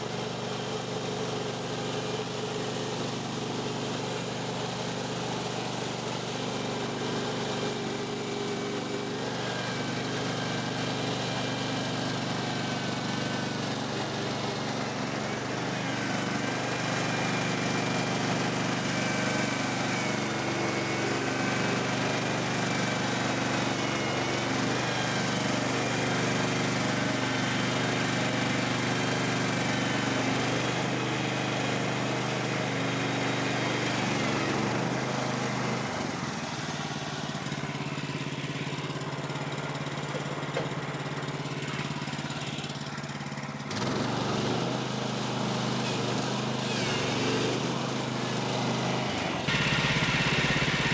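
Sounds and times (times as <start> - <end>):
sawmill gas engine running: 0.0 - 50.9.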